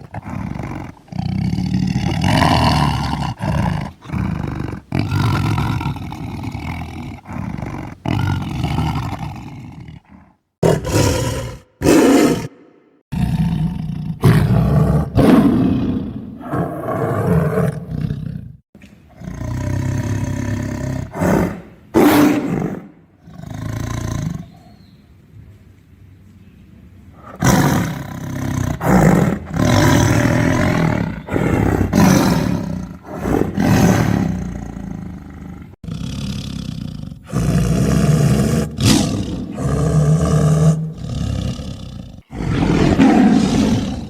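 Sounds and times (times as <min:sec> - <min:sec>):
tiger roaring: 0:00.0 - 0:24.7, 0:27.2 - 0:44.0.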